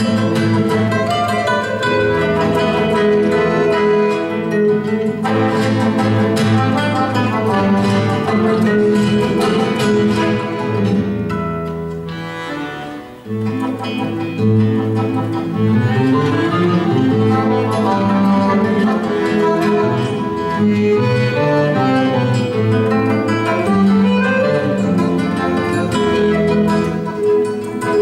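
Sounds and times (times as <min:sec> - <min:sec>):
accordion holding chords: 0:00.0 - 0:28.0
plucked classical guitar: 0:00.0 - 0:28.0.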